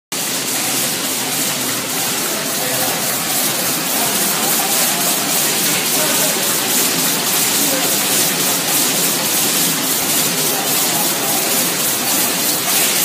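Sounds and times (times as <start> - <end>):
folder-gluer machine running: 0.1 - 13.0.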